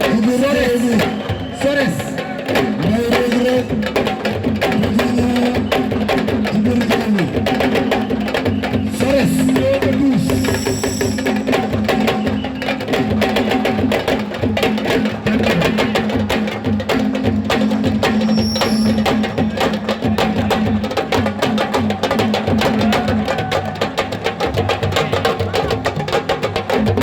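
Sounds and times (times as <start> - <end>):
fast dense drumming: 0.0 - 27.0.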